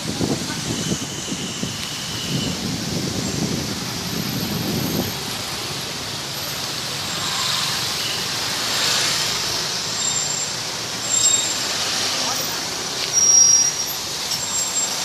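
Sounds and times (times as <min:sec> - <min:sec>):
rush of passing vehicles: 0:00.0 - 0:15.0.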